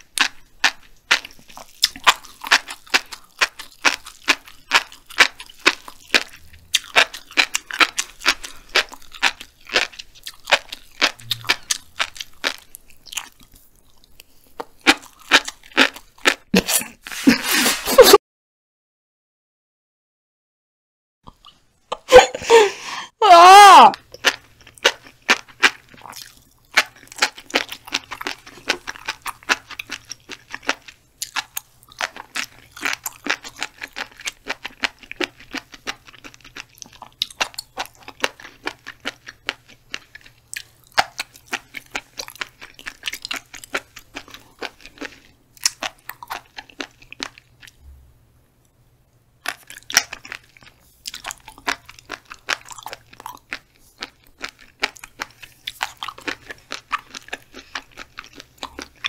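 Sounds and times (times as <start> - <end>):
chewing fish roe popping: 0.0 - 17.3, 23.5 - 47.9, 49.4 - 59.0.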